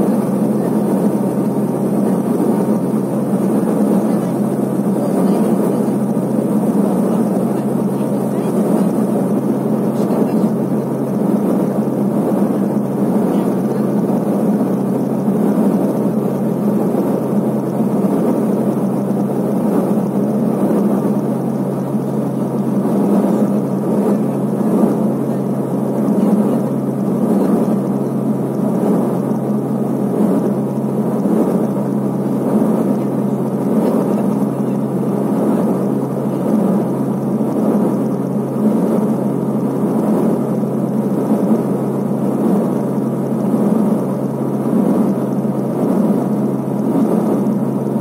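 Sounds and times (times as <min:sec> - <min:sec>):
low propeller hum: 0:00.0 - 0:48.0
turboprop engine drone in cabin: 0:00.0 - 0:48.0.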